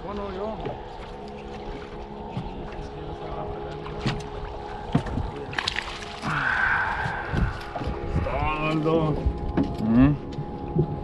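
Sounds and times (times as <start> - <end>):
motor droning: 0.1 - 11.0.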